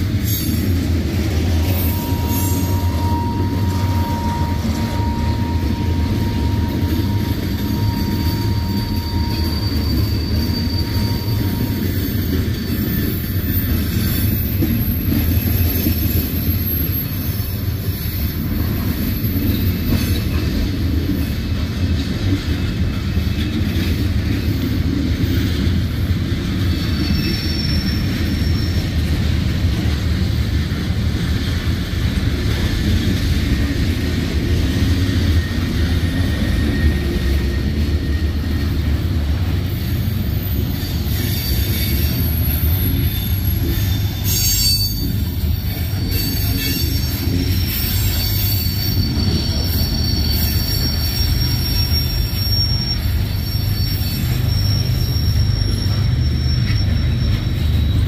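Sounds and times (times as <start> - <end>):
high wheel squeal: 0.0 - 31.2, 32.5 - 58.0
freight train wheels rumbling: 0.0 - 58.0.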